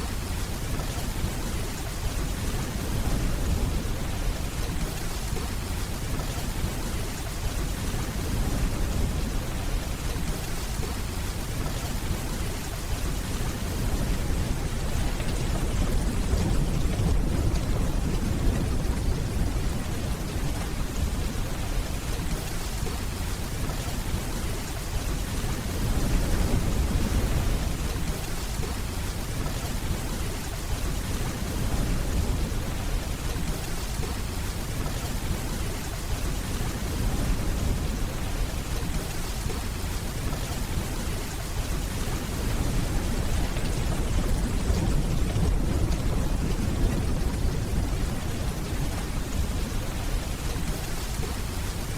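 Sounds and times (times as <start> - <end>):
distant thunder rumbling: 0.0 - 51.9
rain hissing: 0.0 - 51.9.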